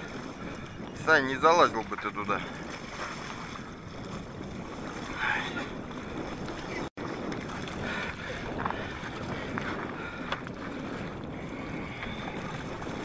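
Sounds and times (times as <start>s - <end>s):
water and ice sloshing: 0.0s - 13.0s
wind on microphone: 0.0s - 13.0s.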